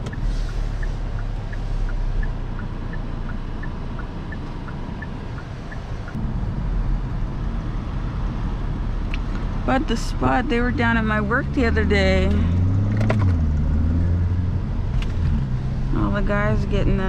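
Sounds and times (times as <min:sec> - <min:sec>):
car engine and road rumble: 0:00.0 - 0:17.0
turn signal ticking: 0:00.0 - 0:17.0.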